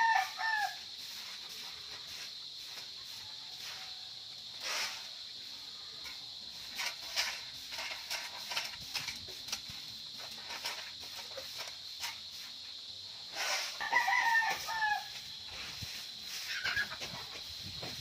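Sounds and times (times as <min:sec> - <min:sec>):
broom sweeping gravelly dirt: 0:00.0 - 0:18.0.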